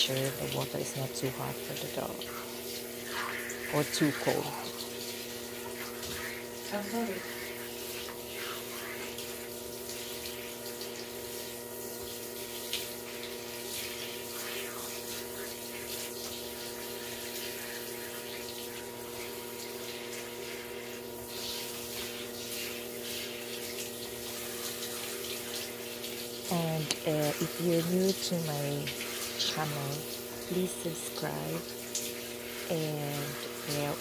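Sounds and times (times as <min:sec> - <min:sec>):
water running from tap: 0:00.0 - 0:34.0.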